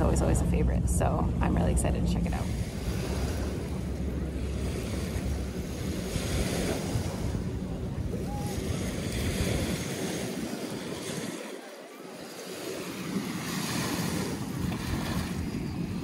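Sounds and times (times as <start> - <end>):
lake waves washing on shore: 0.0 - 16.0
wind buffeting microphone: 0.0 - 16.0.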